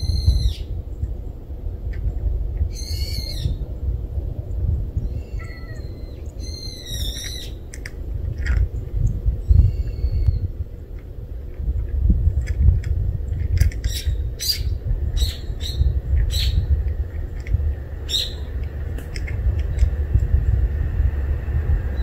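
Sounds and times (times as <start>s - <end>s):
small birds chirping: 0.0s - 1.4s, 2.0s - 11.1s, 12.2s - 20.8s
steady low rumble: 0.0s - 22.0s.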